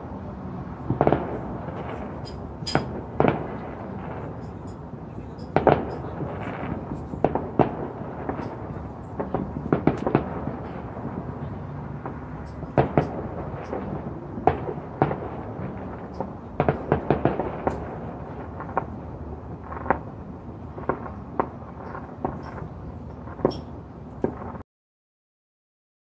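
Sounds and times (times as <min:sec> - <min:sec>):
distant fireworks bangs: 0:00.0 - 0:24.6
steady background noise: 0:00.0 - 0:24.6.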